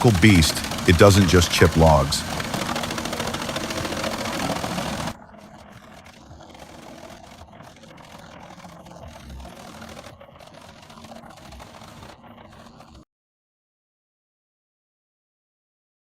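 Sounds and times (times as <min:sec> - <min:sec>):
wood chipper chewing wood: 0:00.0 - 0:13.0.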